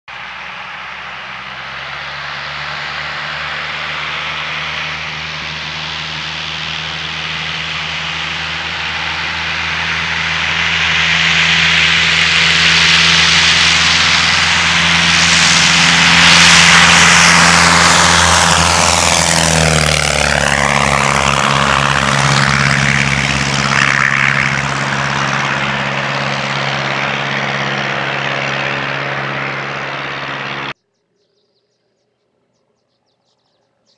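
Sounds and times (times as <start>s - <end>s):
propeller plane engine at takeoff: 0.1s - 33.9s.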